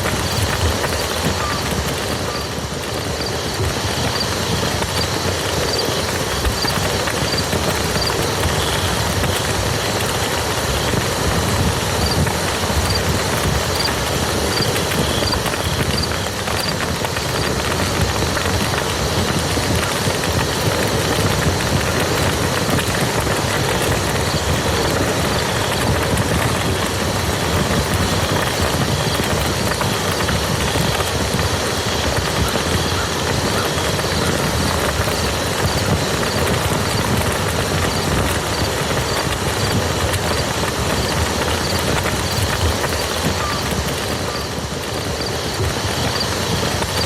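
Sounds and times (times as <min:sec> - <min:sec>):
rain falling on a muddy field: 0:00.0 - 0:47.0.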